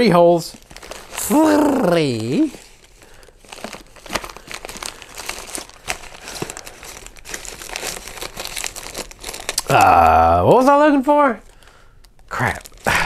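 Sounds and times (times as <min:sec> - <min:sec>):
packaging crinkling: 0:00.5 - 0:10.2, 0:11.4 - 0:13.0.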